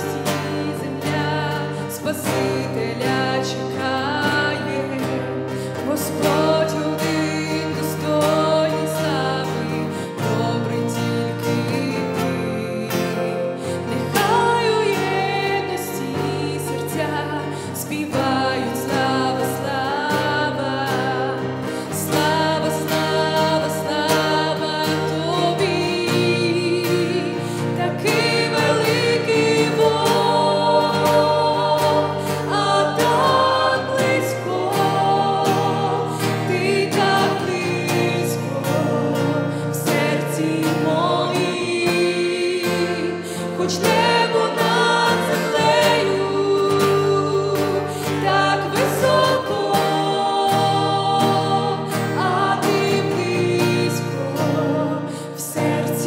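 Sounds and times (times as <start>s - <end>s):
choir singing: 0.0s - 56.0s
strummed acoustic guitar: 0.0s - 56.0s
woman singing into a microphone: 0.0s - 56.0s.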